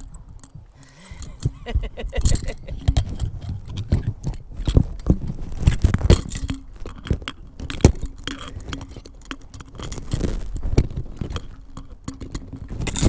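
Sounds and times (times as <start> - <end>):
scraping and rustling on windscreen: 0.0 - 13.0
sharp clicks and knocks: 0.0 - 13.0.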